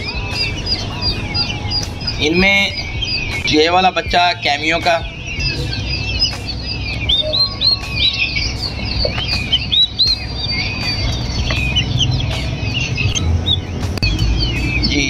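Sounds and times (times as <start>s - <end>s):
chicks peeping: 0.0s - 15.0s
low steady rumble: 0.0s - 15.0s.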